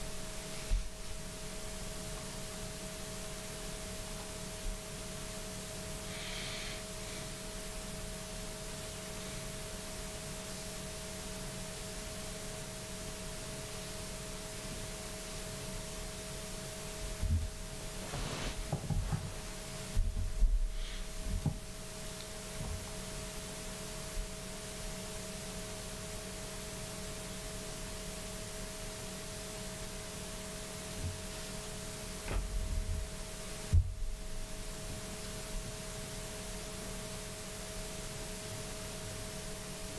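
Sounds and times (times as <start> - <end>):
faint two-tone electrical hum: 0.0 - 39.9
steady hiss: 0.0 - 39.9.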